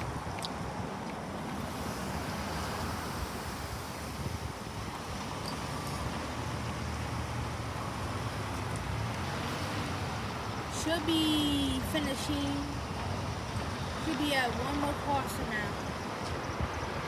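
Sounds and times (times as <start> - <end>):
train rolling on rails: 0.0 - 17.0
wind on microphone: 0.0 - 17.0.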